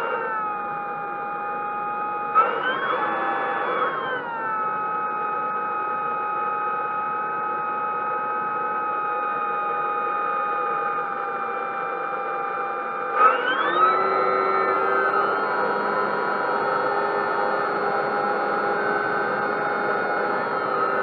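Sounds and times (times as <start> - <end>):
small electric motors whining: 0.0 - 21.0.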